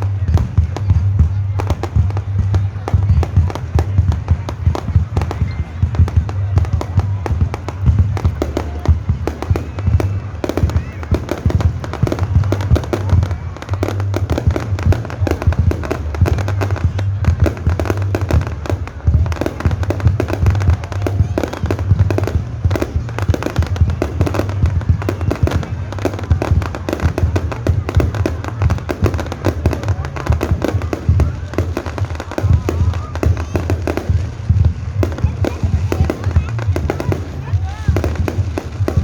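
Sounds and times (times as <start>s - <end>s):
fireworks booms: 0.0s - 39.0s
fireworks crackling and popping: 0.0s - 39.0s.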